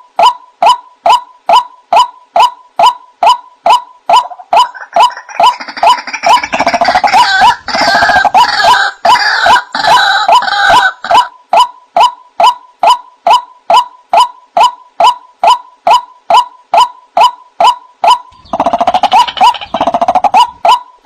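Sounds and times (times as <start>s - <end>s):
waterhen calling: 2.4s - 11.3s, 12.0s - 20.9s.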